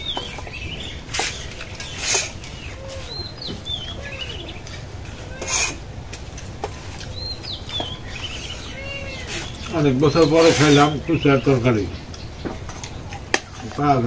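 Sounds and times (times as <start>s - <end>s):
birds chirping and clucking: 0.0s - 14.0s.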